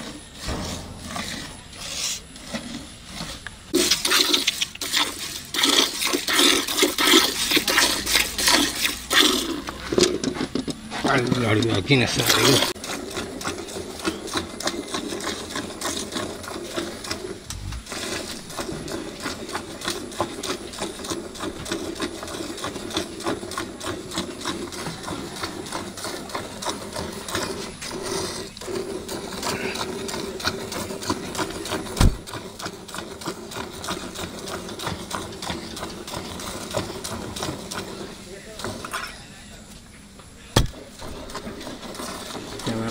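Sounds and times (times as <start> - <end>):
milk squirting into a pail: 0.0 - 39.1, 40.6 - 42.9.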